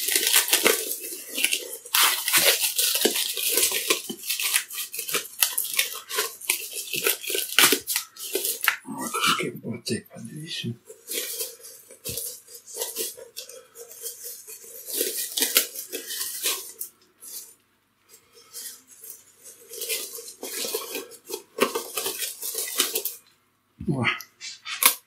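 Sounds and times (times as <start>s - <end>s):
plastic cling film crinkling: 0.0s - 9.3s, 10.6s - 17.6s, 18.2s - 23.3s.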